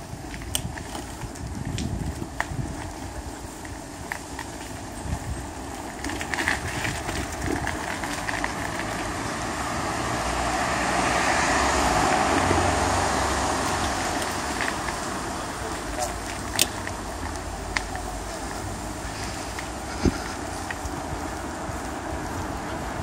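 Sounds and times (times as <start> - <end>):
bicycle clicks and rattles: 0.0 - 10.0, 12.0 - 22.8
bicycle rolling on asphalt: 0.0 - 23.0
street noise: 0.0 - 23.0.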